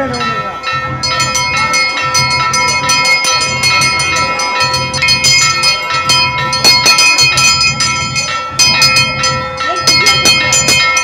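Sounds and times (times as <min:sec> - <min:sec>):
low rhythmic pulse: 0:00.0 - 0:11.0
temple bells ringing: 0:00.0 - 0:11.0.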